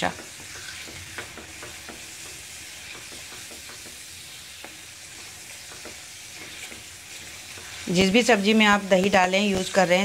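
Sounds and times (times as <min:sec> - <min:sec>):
wooden spatula scraping pan: 0:00.0 - 0:08.8
food sizzling in oil: 0:00.0 - 0:10.0.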